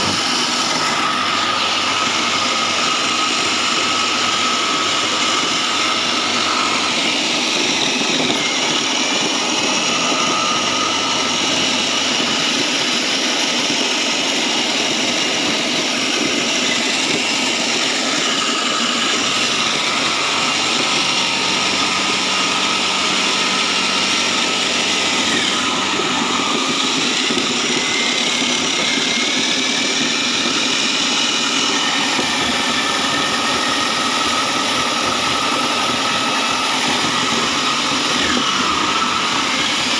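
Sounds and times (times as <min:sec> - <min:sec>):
foam shredding machine running: 0:00.0 - 0:39.9.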